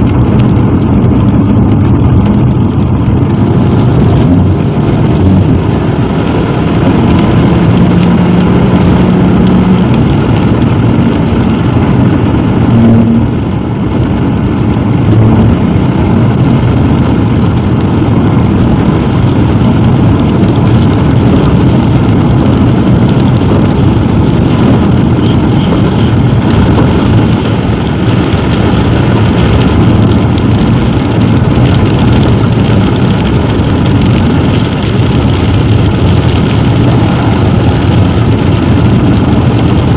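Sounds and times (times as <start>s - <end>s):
car engine running: 0.0s - 39.9s
tyres on wet road: 0.0s - 39.9s.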